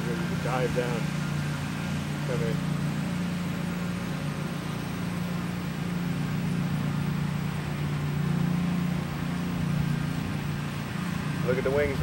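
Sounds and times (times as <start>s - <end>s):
turboprop engine droning: 0.0s - 12.0s.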